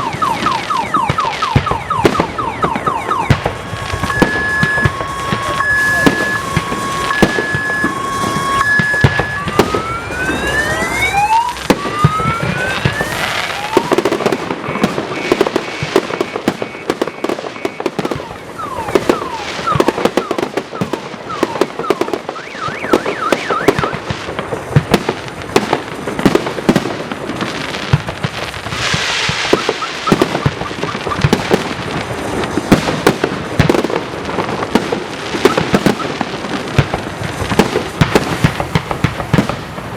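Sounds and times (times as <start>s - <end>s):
fireworks bangs and crackling: 0.0s - 39.9s
fireworks whistles rising: 0.0s - 39.9s.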